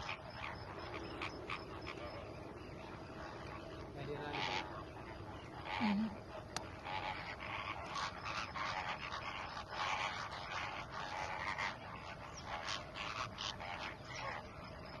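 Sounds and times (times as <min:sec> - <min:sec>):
flamingos calling: 0:00.0 - 0:15.0.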